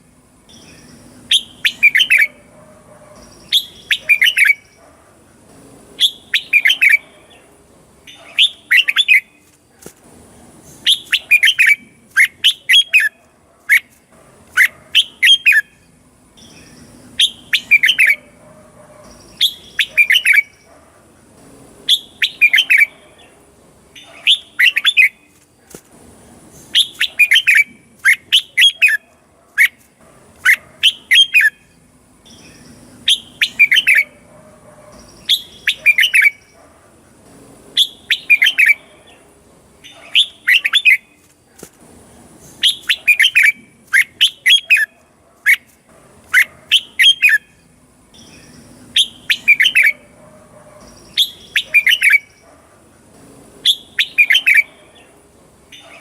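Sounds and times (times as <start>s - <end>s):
bird chirping song: 0.0s - 9.5s, 10.4s - 21.3s, 21.9s - 25.4s, 26.4s - 41.3s, 42.2s - 45.7s, 46.3s - 52.8s, 53.6s - 56.0s.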